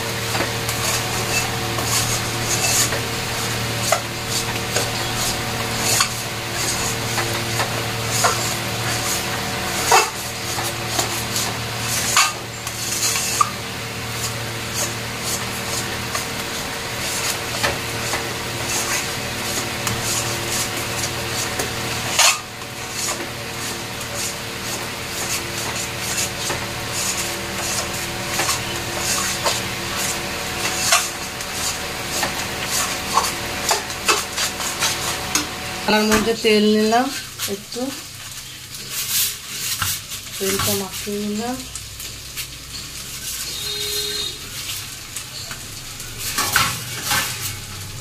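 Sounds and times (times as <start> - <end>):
metal spatula scraping a pan: 0.3 - 36.1, 37.1 - 45.6, 46.2 - 47.9.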